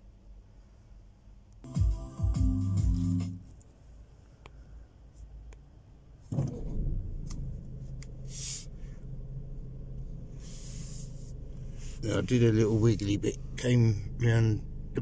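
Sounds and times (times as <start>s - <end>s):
low car engine hum: 2.6s - 15.0s.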